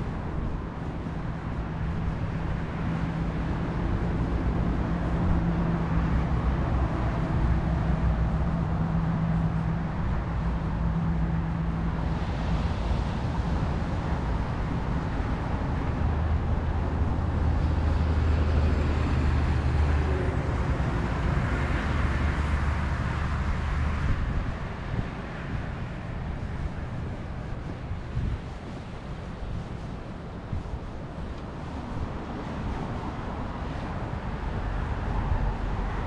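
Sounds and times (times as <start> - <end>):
vehicle engine hum: 0.0 - 36.0
wind noise: 0.0 - 36.0.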